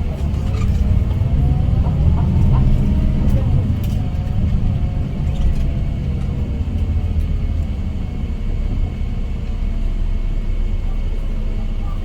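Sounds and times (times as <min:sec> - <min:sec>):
coach engine and road rumble: 0:00.0 - 0:12.0.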